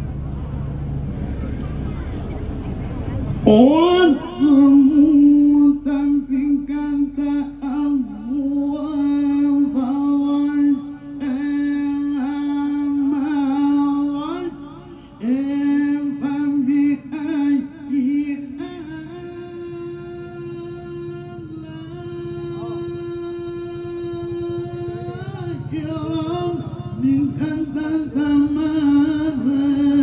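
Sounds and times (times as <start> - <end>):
man chanting over a pa: 3.4 - 30.0.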